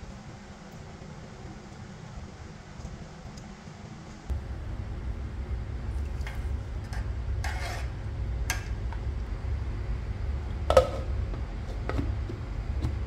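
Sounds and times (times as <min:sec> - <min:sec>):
pot simmering on gas burner: 0:00.0 - 0:13.0.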